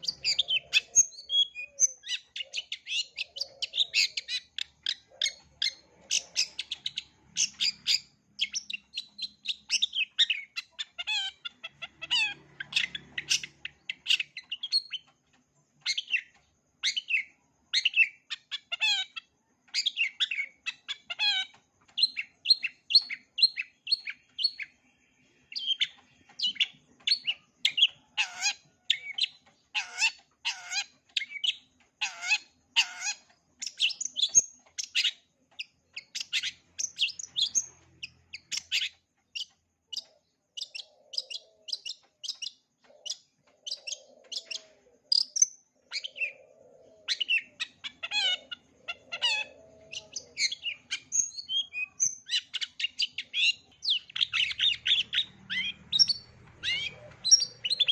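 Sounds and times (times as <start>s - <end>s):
bird singing chirps and trills: 0.0s - 57.9s.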